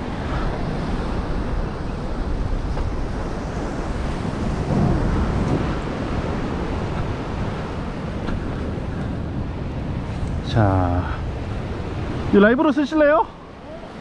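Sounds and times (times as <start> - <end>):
surf on rocky shore: 0.0 - 14.0
wind buffeting microphone: 0.0 - 14.0.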